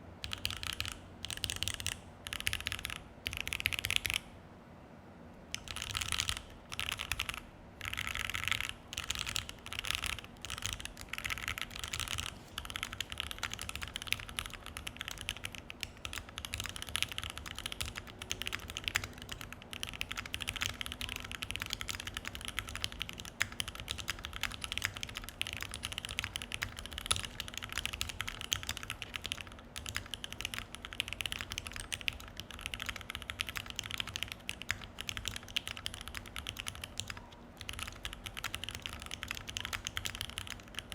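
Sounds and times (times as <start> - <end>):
typing on mechanical keyboard: 0.2 - 4.2, 5.5 - 40.9.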